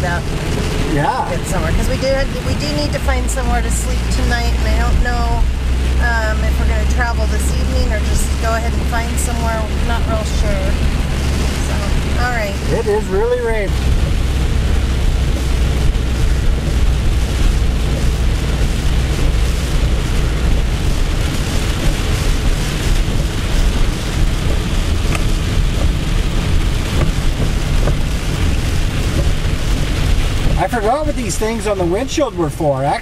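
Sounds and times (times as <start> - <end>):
heavy rain on a windshield: 0.0 - 33.0
truck rumble: 0.0 - 33.0.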